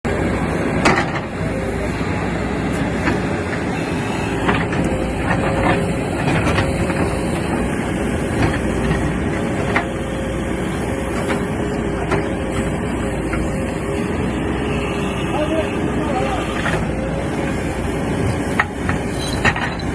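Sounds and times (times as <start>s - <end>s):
diesel engine running under load: 0.0s - 19.9s.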